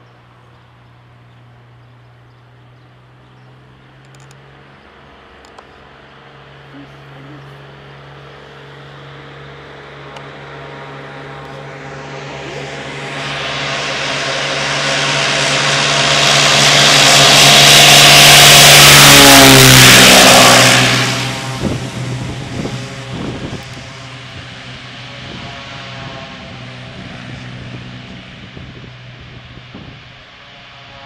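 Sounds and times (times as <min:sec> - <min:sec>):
propeller plane flying past: 0:00.0 - 0:31.0.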